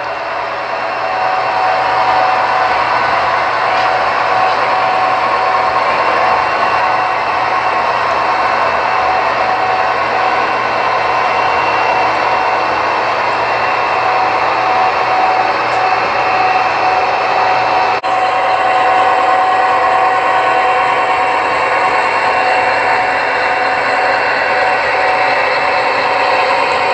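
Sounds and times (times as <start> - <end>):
model train motor whine: 0.0 - 26.9.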